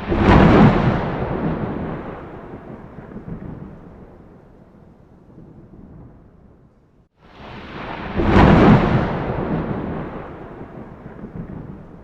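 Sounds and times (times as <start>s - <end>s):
thunder clap and rumble: 0.0s - 12.0s.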